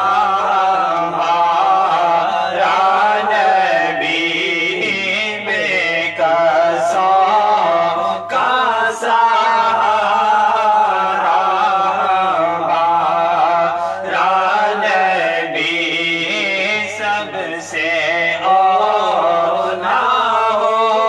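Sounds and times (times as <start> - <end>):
men chanting together: 0.0 - 21.0.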